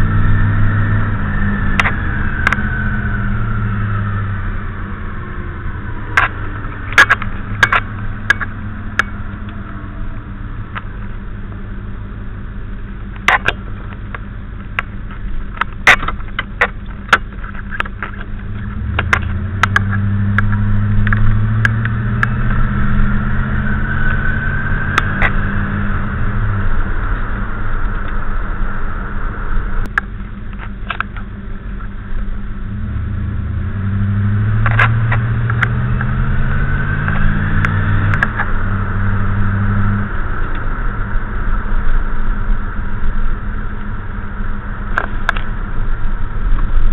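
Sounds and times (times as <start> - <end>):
car engine revving: 0.0 - 46.9
high gear whine: 0.0 - 46.9.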